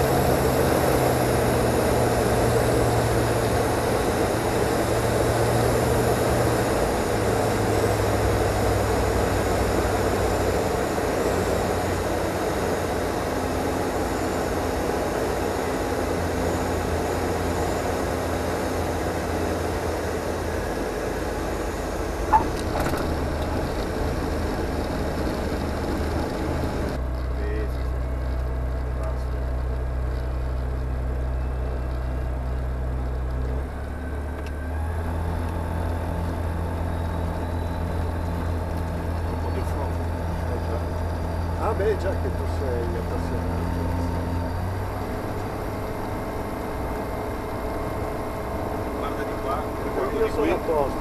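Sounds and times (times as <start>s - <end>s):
aircraft engine and propeller: 0.0s - 51.0s.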